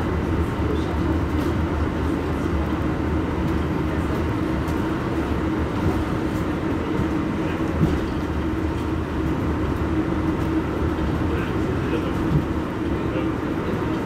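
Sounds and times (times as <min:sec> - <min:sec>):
electric bus humming: 0:00.0 - 0:14.0.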